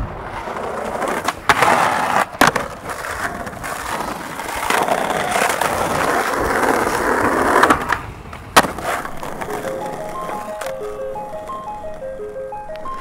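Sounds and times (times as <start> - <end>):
skateboard wheels rolling on stone: 0.0 - 13.0
skateboard clacks: 0.1 - 13.0.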